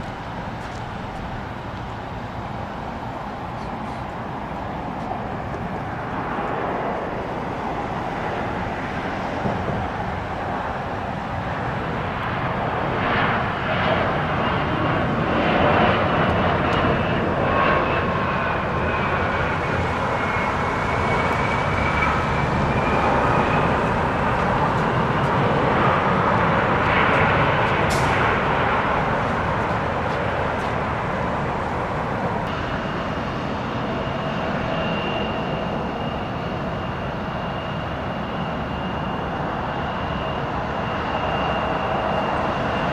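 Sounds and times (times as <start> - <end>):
aircraft engines rushing: 0.0 - 42.9
faint engine whine: 0.0 - 42.9.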